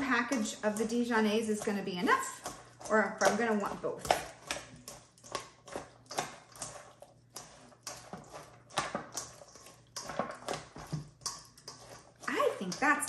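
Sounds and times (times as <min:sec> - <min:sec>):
utensils clicking against a bowl: 0:00.0 - 0:13.0.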